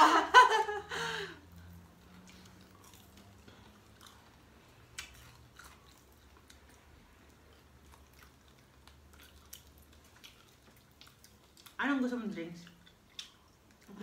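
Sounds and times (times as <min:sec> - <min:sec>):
person chewing: 0:01.8 - 0:11.8, 0:12.6 - 0:14.0.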